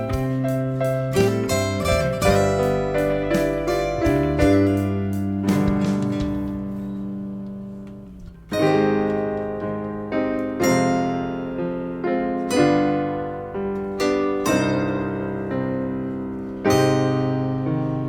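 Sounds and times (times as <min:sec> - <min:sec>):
piano chords and notes: 0:00.0 - 0:18.0.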